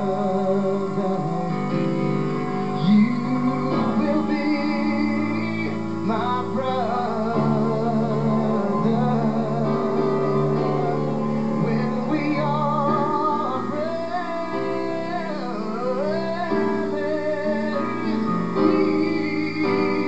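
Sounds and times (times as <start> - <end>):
guitar: 0.0 - 20.0
live band music: 0.0 - 20.0
person singing long notes: 2.6 - 20.0.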